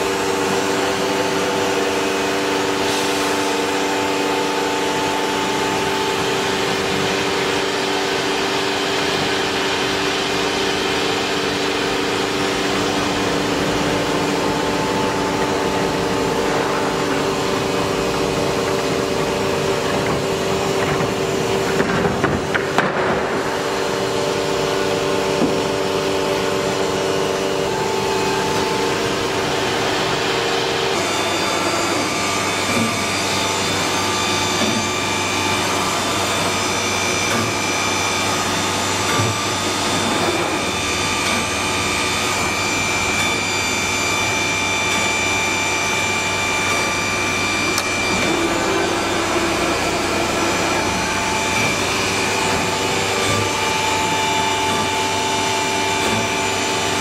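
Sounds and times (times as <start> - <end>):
machine hum: 0.0 - 57.0
router spindle whine: 0.0 - 57.0.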